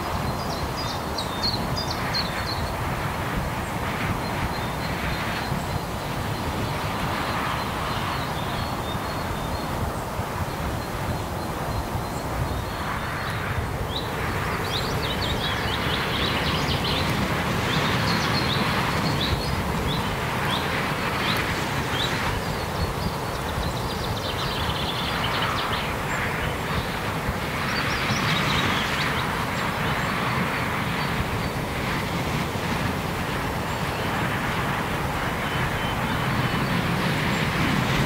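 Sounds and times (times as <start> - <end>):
traffic noise: 0.0 - 38.0.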